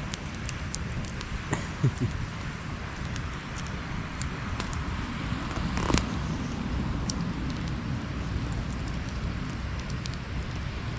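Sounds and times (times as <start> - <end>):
campfire crackling and popping: 0.0 - 10.9
steady rushing noise: 0.0 - 10.9.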